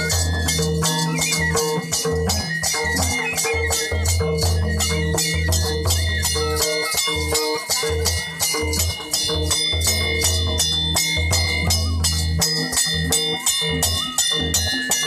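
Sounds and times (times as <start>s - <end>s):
metallic chiming strokes: 0.0s - 15.0s.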